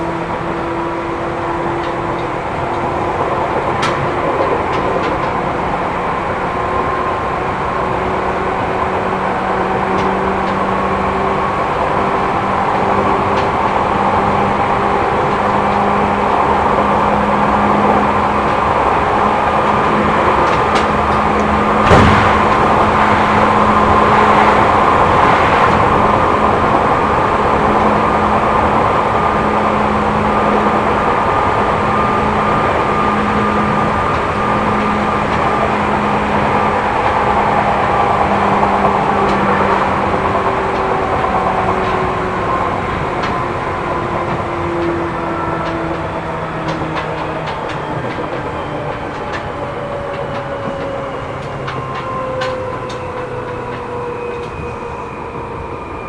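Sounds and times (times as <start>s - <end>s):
electric train motor whine: 0.0s - 56.0s.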